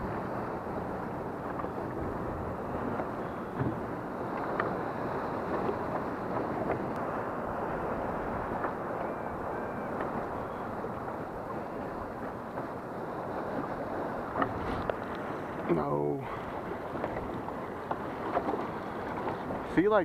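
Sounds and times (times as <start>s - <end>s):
wind on microphone: 0.0s - 19.8s
surf breaking: 0.0s - 20.0s.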